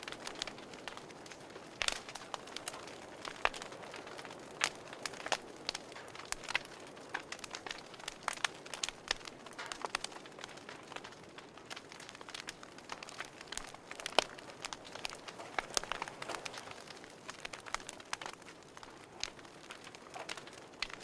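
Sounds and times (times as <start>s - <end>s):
soft steady hiss: 0.0s - 21.0s
wood fire crackling: 0.0s - 21.0s.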